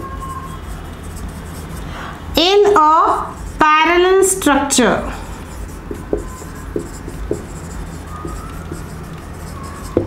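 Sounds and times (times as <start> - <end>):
marker pen writing on whiteboard: 0.0 - 10.0.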